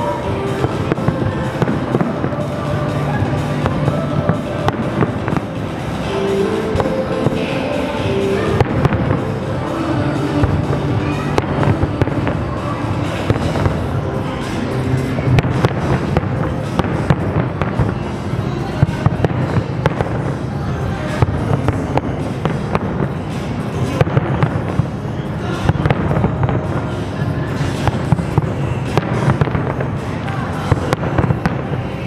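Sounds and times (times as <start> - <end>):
fireworks bangs and crackling: 0.0 - 32.0
music playing: 0.0 - 32.0.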